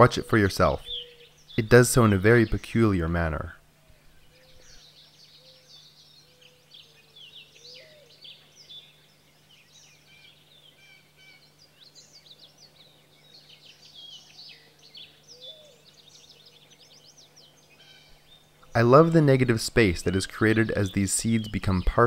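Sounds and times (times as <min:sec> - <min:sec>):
faint steady hum: 0:00.0 - 0:22.0
small birds chirping and trilling: 0:00.0 - 0:22.0.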